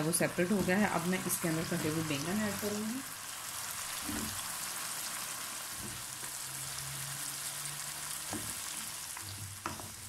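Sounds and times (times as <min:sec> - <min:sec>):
masala sizzling in hot oil: 0:00.0 - 0:10.0.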